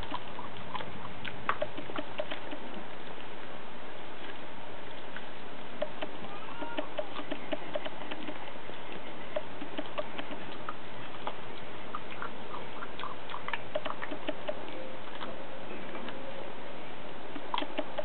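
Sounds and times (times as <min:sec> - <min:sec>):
puppy gnawing bone: 0:00.0 - 0:16.3, 0:17.2 - 0:18.0.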